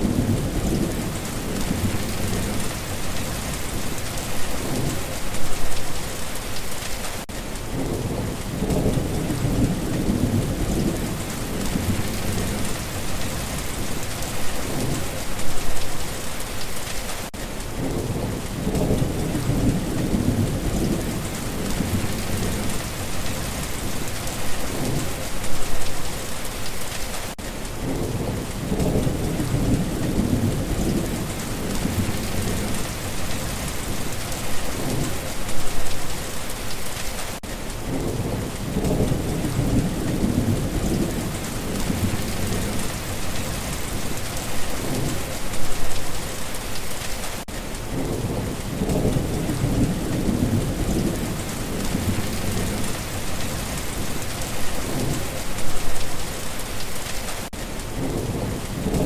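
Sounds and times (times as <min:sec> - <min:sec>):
thunder rumbling: 0:00.0 - 0:05.9, 0:07.7 - 0:16.1, 0:17.7 - 0:26.4, 0:27.8 - 0:37.0, 0:37.8 - 0:46.4, 0:47.8 - 0:56.4
heavy rain falling: 0:00.0 - 0:59.0.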